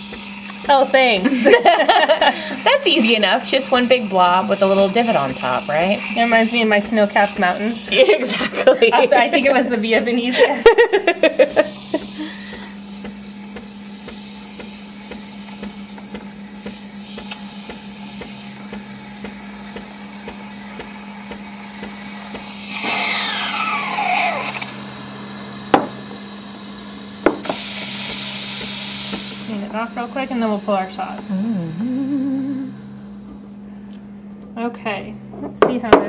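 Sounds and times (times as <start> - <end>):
espresso machine low hum: 0.0 - 36.0.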